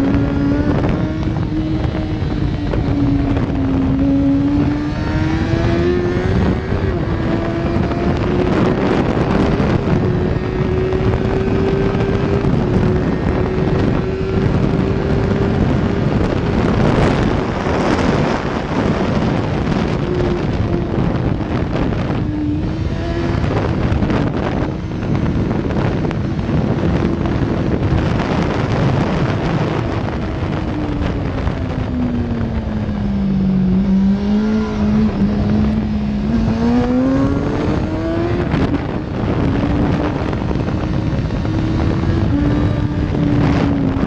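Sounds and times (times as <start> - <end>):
motorcycle engine revving: 0.0 - 44.0
wind rush on microphone: 0.0 - 44.0.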